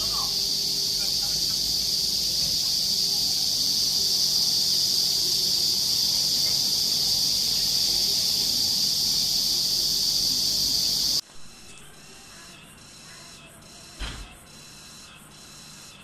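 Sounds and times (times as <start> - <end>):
insects buzzing: 0.0 - 15.9.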